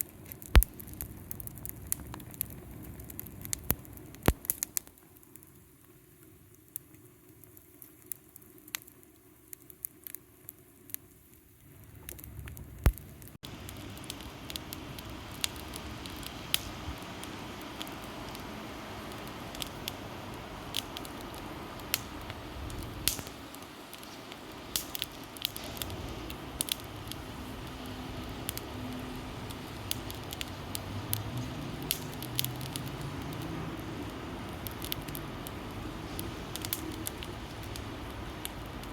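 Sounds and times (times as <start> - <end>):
sharp pops of fire: 0.0 - 5.6, 6.5 - 38.9
wood fire crackling: 0.0 - 38.9.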